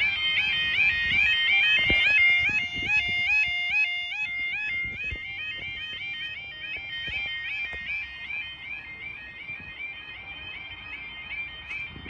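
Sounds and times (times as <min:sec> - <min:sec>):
lower-pitched alarm: 0:00.0 - 0:12.0
two-tone electronic warning alarms: 0:00.0 - 0:12.0.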